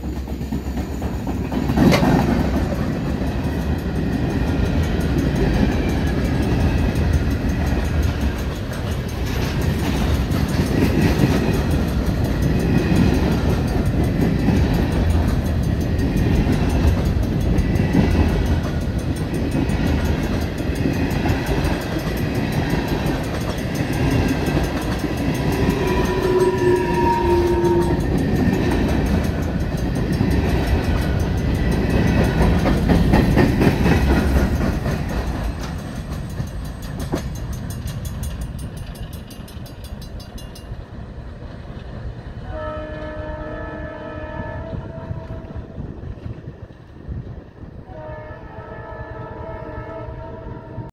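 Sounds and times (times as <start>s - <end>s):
freight train wheels clattering: 0.0s - 43.2s.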